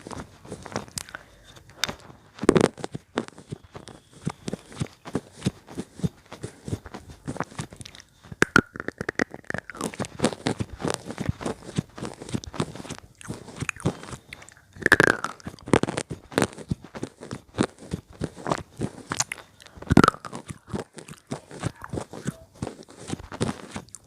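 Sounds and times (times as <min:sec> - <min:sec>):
slate pencils being chewed: 0:00.0 - 0:24.0.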